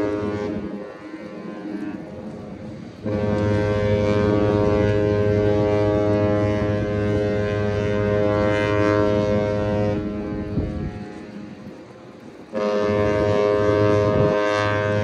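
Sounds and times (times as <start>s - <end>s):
ship horn long blast: 0.0s - 15.0s.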